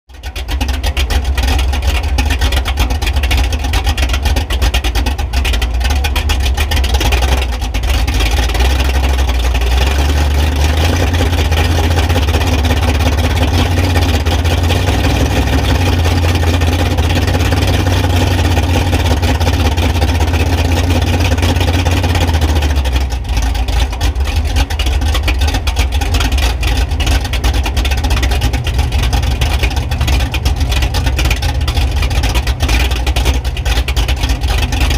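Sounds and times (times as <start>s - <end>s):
truck engine deep rumble: 0.1s - 34.9s.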